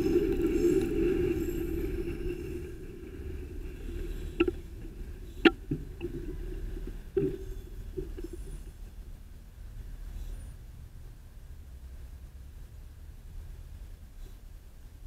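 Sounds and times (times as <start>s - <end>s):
bicycle riding rumble: 0.0s - 14.3s.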